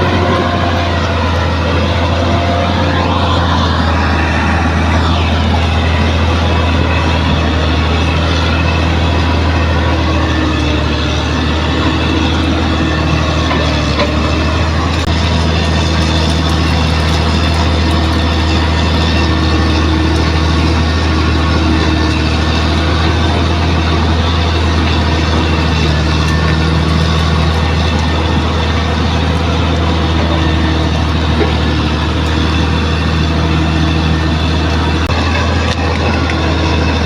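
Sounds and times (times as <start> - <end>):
bulldozer diesel engine humming: 0.0 - 37.0.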